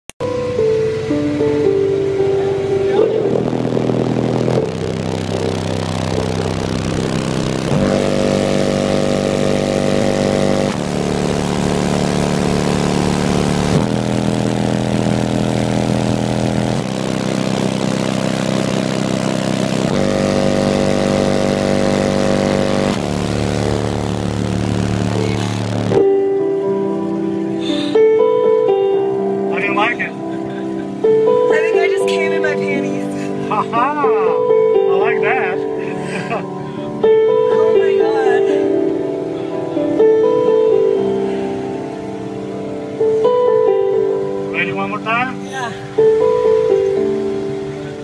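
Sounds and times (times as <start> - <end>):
loud subwoofer bass notes: 0.2 - 45.4.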